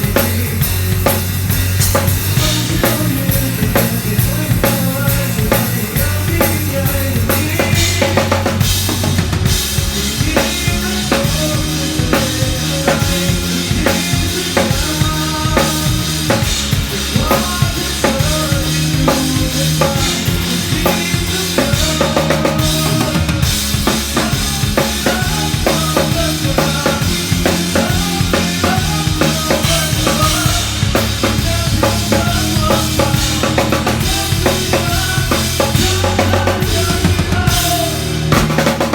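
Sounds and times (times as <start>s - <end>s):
drum kit playing: 0.0s - 38.9s
music track with bass line: 0.0s - 38.9s.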